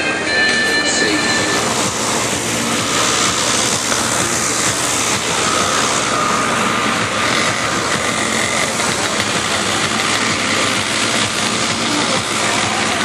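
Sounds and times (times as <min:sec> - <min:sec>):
biplane engine drone: 0:00.0 - 0:13.0
loud even noise: 0:00.0 - 0:13.0.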